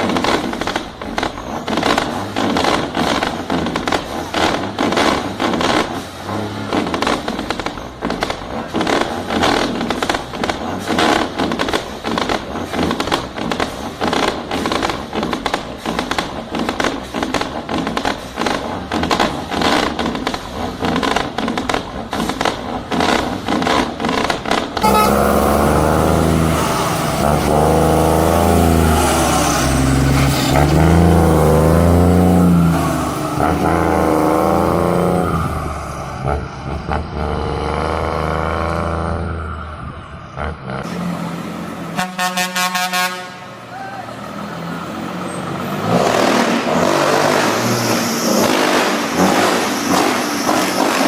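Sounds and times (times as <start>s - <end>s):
diesel truck engine drone: 0.0s - 51.0s.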